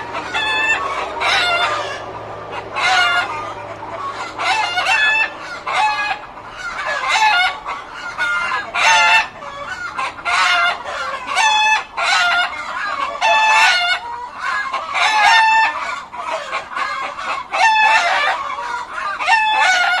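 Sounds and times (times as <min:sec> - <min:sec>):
chickens clucking and squawking: 0:00.0 - 0:20.0.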